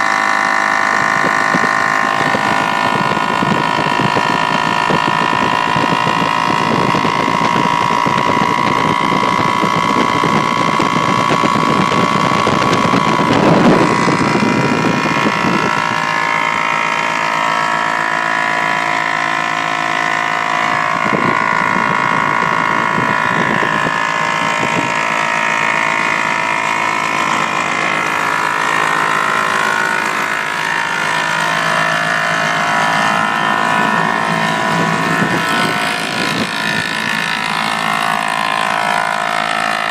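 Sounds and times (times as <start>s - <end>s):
aircraft engine running rough: 0.0s - 39.9s.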